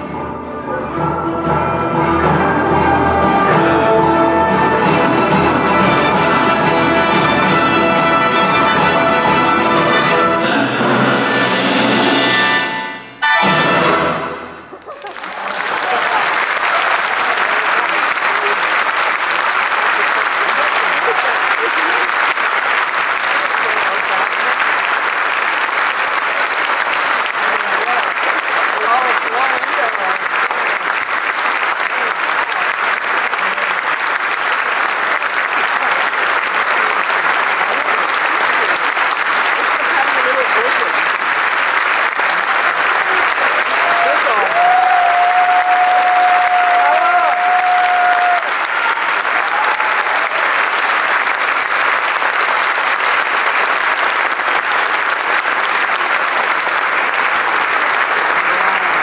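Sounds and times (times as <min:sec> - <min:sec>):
audience applauding: 0:04.5 - 0:11.7, 0:13.2 - 0:59.0.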